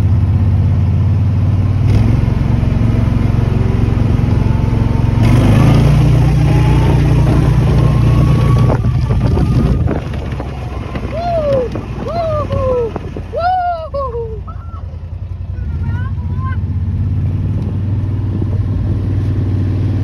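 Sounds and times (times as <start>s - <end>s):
utility vehicle engine under load: 0.0s - 20.0s.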